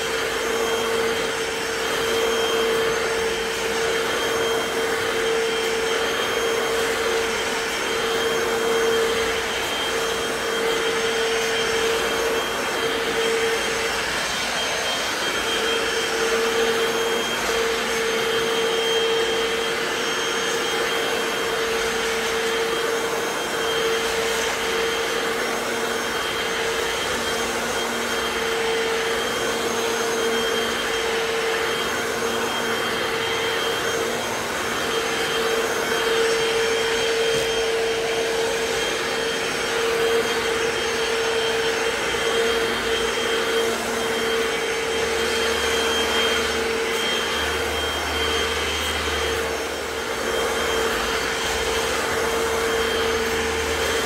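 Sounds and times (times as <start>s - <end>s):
floor cleaner motor hum and whine: 0.0s - 54.0s.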